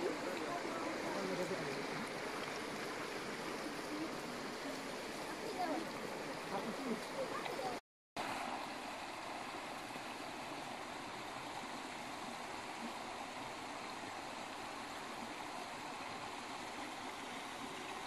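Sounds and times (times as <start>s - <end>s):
creek flowing over rocks: 0.0s - 18.0s.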